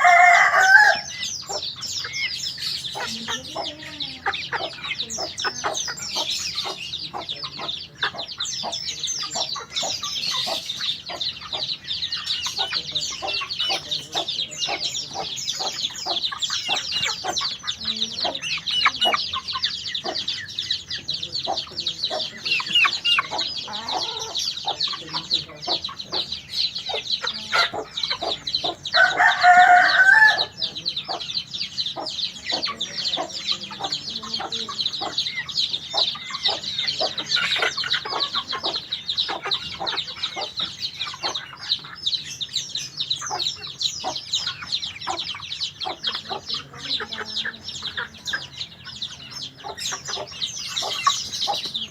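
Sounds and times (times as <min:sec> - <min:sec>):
bird twittering song: 0:00.0 - 0:51.9.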